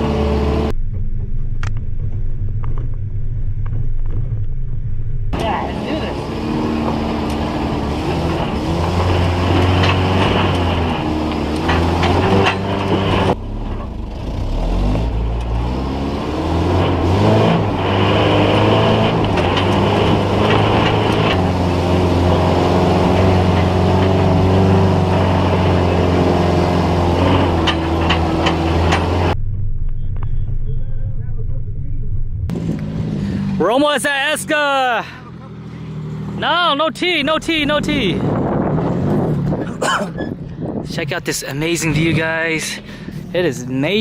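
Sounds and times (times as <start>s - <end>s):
off-road engine revving: 0.0s - 29.4s, 30.2s - 44.0s.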